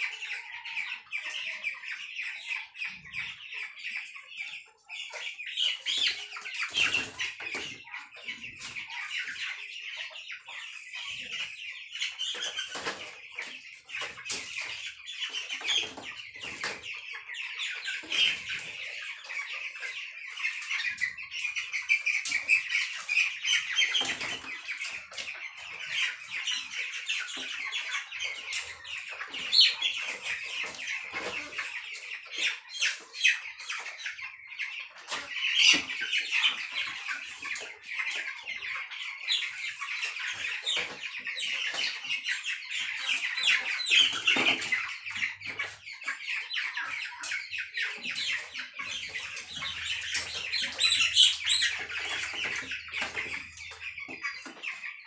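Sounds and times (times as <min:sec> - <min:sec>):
chickens peeping and chirping: 0:00.0 - 0:55.0.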